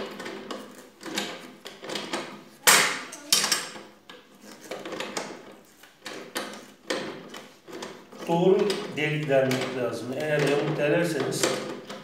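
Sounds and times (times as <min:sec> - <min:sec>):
screw knocking and scraping in wood: 0:00.0 - 0:12.0.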